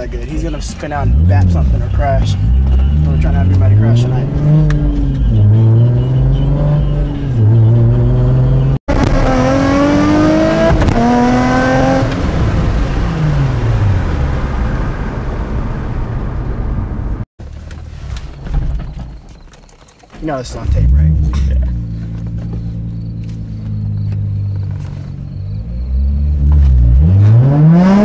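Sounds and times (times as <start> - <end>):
car engine accelerating: 0.1 - 17.3, 20.6 - 28.0.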